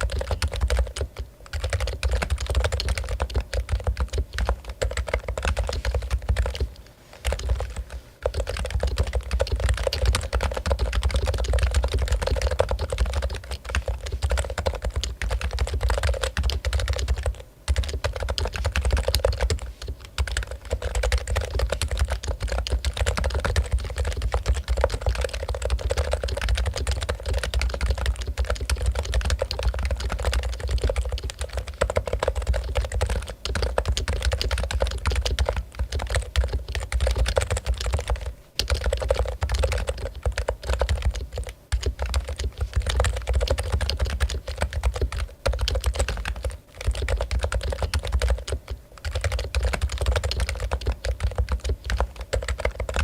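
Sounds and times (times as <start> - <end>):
fast keyboard typing: 0.0 - 53.0.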